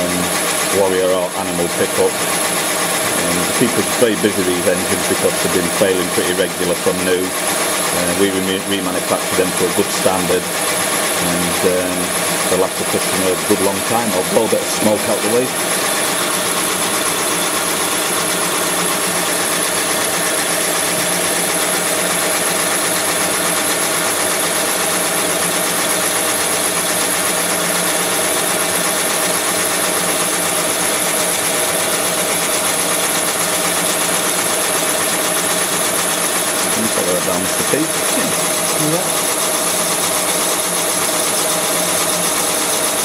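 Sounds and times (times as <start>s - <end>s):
boring bar machine drone: 0.0s - 43.0s.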